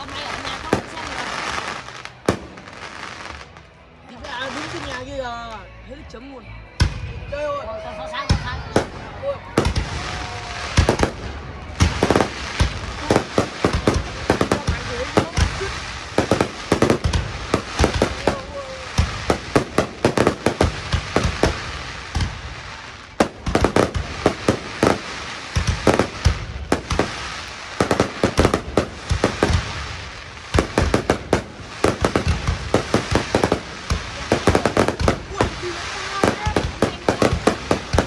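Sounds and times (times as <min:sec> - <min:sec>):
fireworks bangs and crackles: 0:00.0 - 0:05.6, 0:06.8 - 0:38.0.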